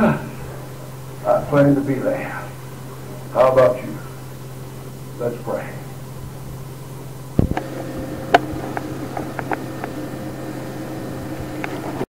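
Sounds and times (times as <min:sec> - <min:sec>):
tape hum and hiss: 0:00.0 - 0:12.0.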